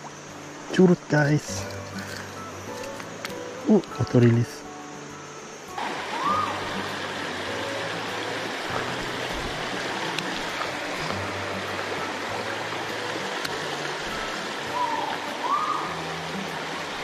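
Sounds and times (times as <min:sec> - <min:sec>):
stream flowing over stones: 0:00.0 - 0:17.0.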